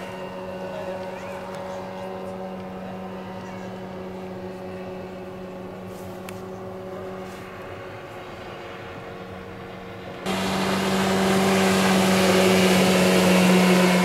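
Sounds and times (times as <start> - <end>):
outboard motor droning: 0.0 - 14.0.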